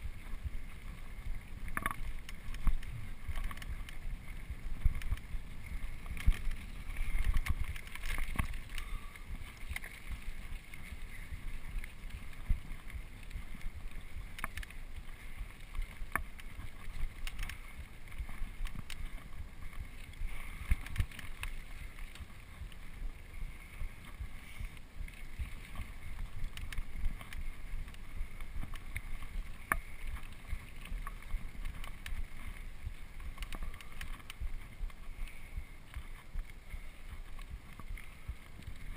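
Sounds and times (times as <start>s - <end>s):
bike clicking and rattling: 0.0s - 38.9s.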